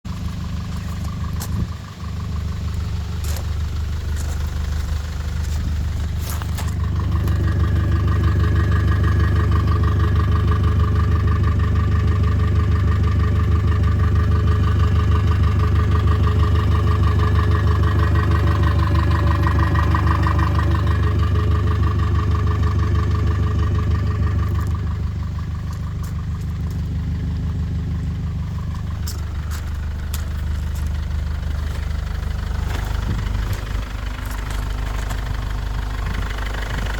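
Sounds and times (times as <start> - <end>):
van engine idling and revving: 0.0 - 36.9.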